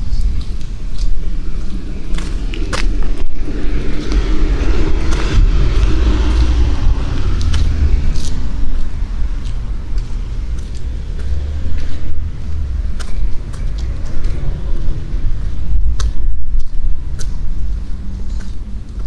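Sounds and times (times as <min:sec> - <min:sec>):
low street rumble: 0:00.0 - 0:19.0.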